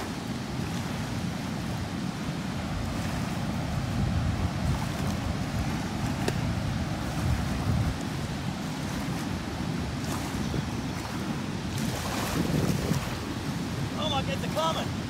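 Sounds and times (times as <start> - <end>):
water rushing through spillway: 0.0 - 15.0
wind buffeting microphone: 0.0 - 15.0.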